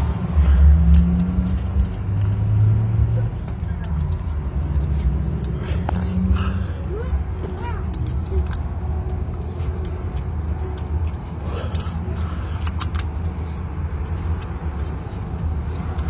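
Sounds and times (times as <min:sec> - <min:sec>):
hand tools and bolts clinking: 0:00.0 - 0:16.0.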